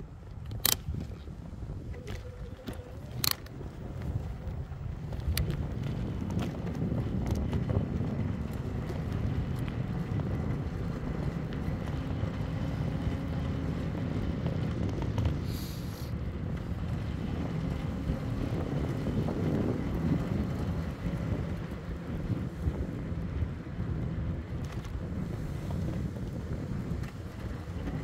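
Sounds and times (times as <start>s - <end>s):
e-bike rolling on road: 0.0s - 28.0s
wind buffeting microphone: 0.0s - 28.0s.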